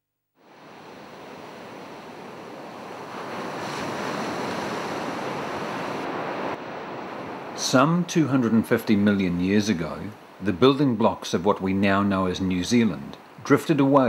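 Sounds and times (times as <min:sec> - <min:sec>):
ocean waves washing on shore: 0:00.4 - 0:14.0.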